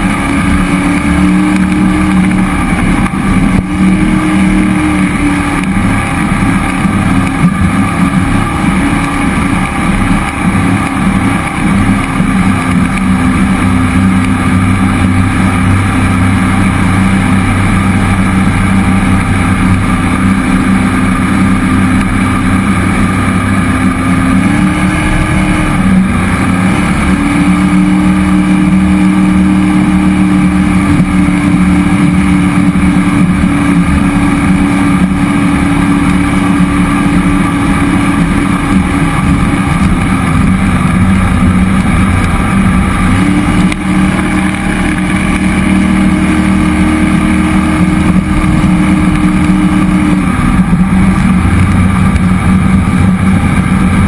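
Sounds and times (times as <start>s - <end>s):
boat engine running: 0.0s - 54.0s
rush of water and wind: 0.0s - 54.0s.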